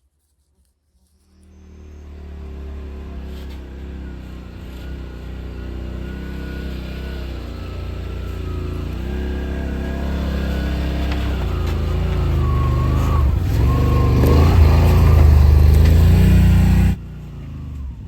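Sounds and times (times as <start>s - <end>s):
utility vehicle engine running: 1.4s - 18.0s.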